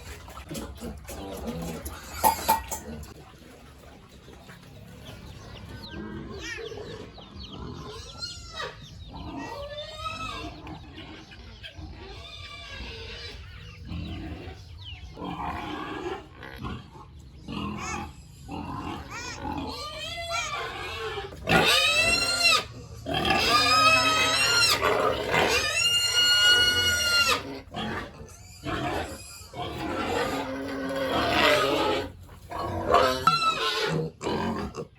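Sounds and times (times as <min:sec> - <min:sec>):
pigs squealing: 0:00.0 - 0:03.2, 0:05.6 - 0:34.9
pigs grunting: 0:00.0 - 0:34.9.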